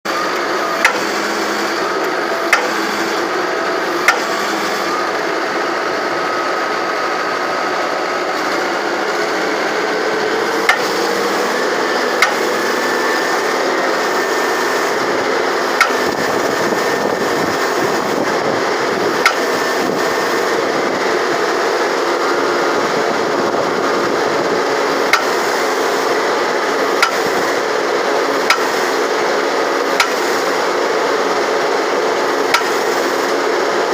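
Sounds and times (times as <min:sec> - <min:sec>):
hydraulic breaker hammer running: 0:00.0 - 0:33.9.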